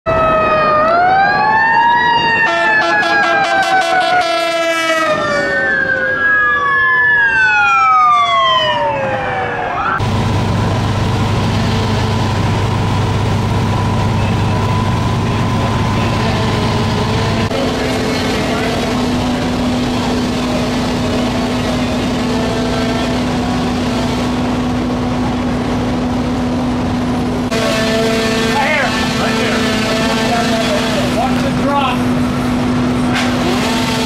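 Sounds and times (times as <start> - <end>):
emergency vehicle sirens: 0.1 - 34.0
diesel engine droning: 2.3 - 34.0.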